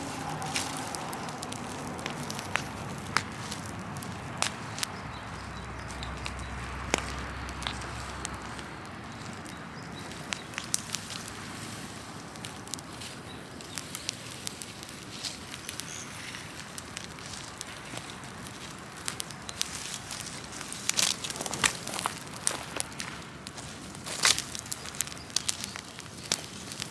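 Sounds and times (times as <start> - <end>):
fire crackling: 0.0 - 26.9
sharp pops of fire: 0.0 - 26.9.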